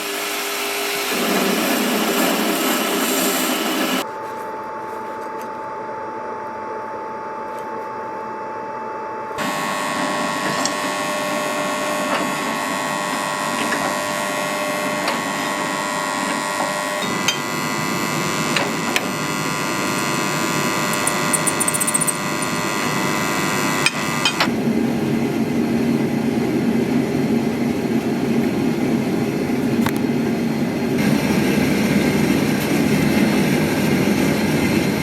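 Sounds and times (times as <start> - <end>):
workshop machine hum: 0.0 - 35.0.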